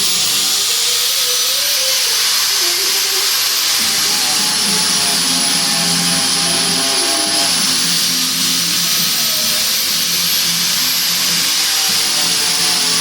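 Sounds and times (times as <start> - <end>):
power tool whining: 0.0 - 13.0.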